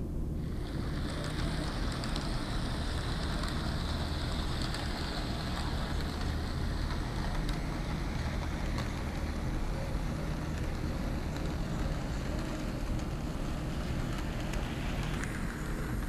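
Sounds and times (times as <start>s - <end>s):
model train motor whir: 0.4s - 16.0s
wheels rumbling on track: 0.4s - 16.0s
faint clicks: 0.9s - 16.0s.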